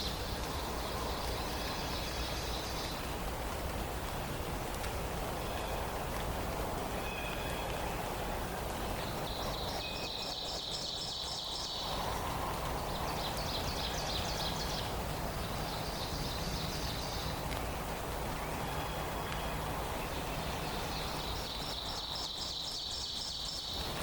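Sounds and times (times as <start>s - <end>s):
forest background hiss: 0.0s - 24.0s.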